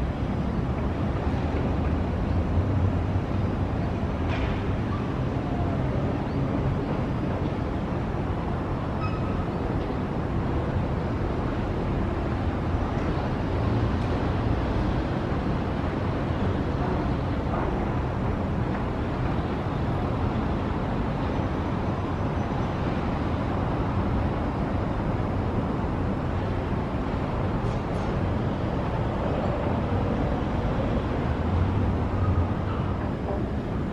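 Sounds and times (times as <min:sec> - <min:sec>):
distant city traffic hum: 0:00.0 - 0:33.9.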